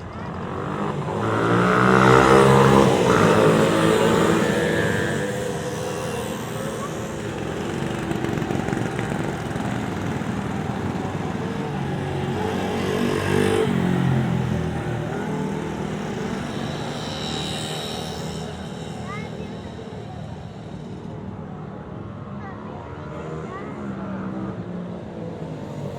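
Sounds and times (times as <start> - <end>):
motorcycle engines passing: 0.0 - 25.9.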